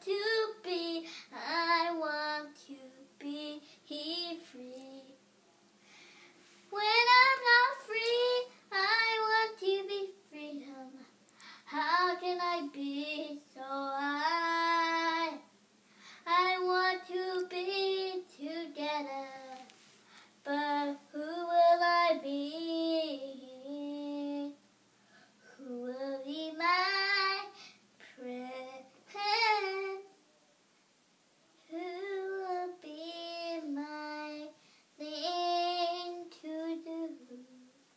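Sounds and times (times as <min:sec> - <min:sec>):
girl singing unaccompanied: 0:00.0 - 0:05.3, 0:06.7 - 0:15.5, 0:16.2 - 0:19.8, 0:20.4 - 0:24.6, 0:25.4 - 0:30.2, 0:31.6 - 0:37.9.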